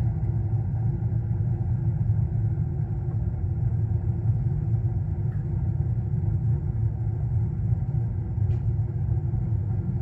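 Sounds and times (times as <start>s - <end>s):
gas furnace burner rumbling: 0.0s - 10.0s.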